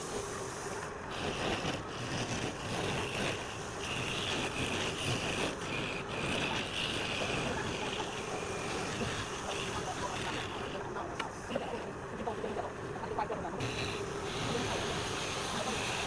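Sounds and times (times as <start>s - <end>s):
lathe tool scraping workpiece: 0.0s - 16.0s.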